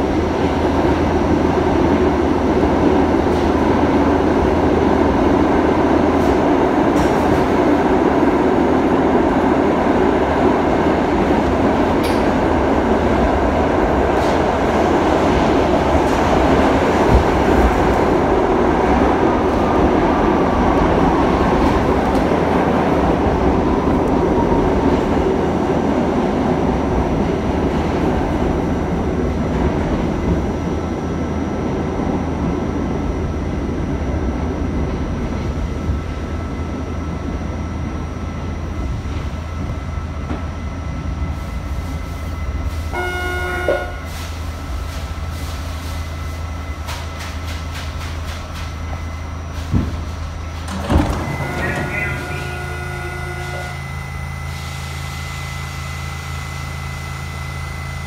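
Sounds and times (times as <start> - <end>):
subway train rumbling on track: 0.0 - 58.0.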